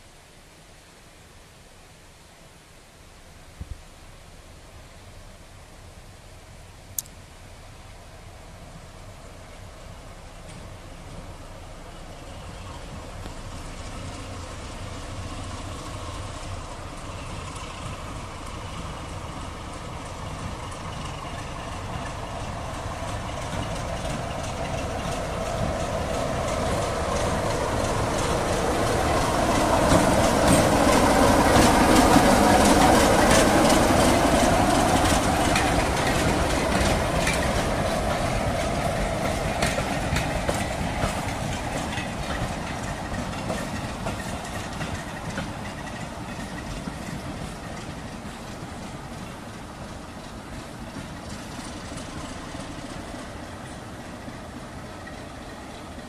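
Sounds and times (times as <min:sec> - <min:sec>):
diesel locomotive engine drone: 0:04.0 - 0:56.0
train wheels clicking over rail joints: 0:10.2 - 0:56.0.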